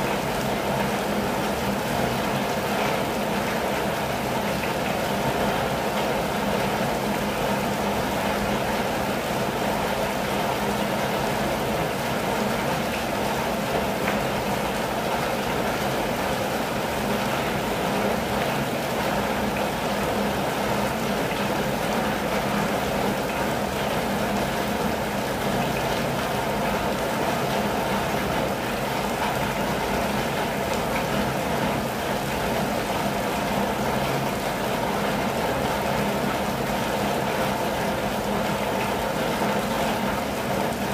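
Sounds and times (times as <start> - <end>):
rain on a vehicle roof: 0.0 - 40.9.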